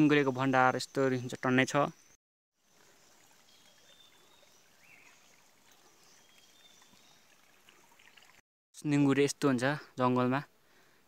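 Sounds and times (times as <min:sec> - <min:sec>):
forest background hiss: 0:00.0 - 0:11.0.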